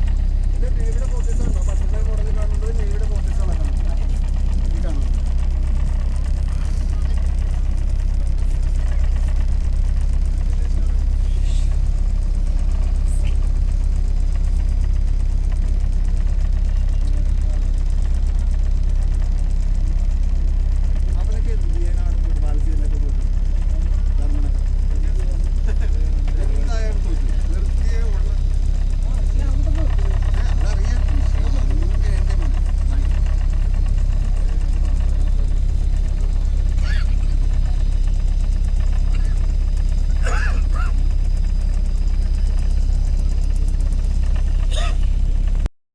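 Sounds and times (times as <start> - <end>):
boat engine droning: 0.0 - 45.7.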